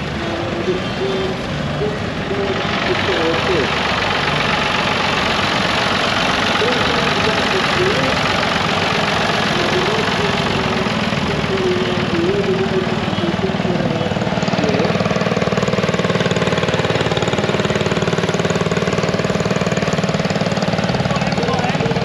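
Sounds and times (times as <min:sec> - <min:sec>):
small tractor engine pulsing: 0:00.0 - 0:22.0
tractor engine driving past: 0:00.0 - 0:22.0.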